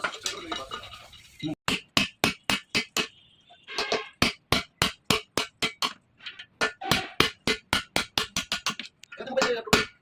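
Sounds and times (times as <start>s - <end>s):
hammer striking: 1.7s - 10.0s.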